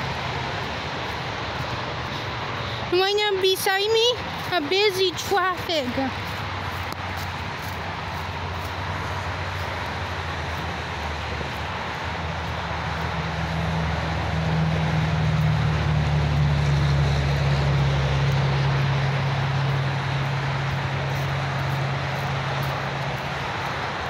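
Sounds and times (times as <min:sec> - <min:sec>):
traffic rush: 0:00.0 - 0:24.0
vehicle engine hum: 0:00.0 - 0:24.0.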